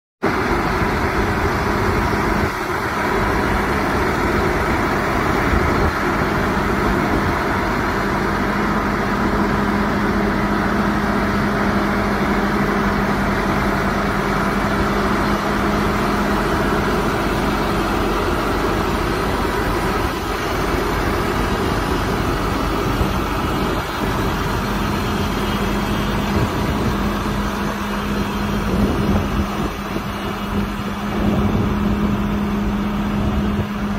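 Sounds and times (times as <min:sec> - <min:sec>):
tractor diesel engine idling: 0:00.2 - 0:33.9.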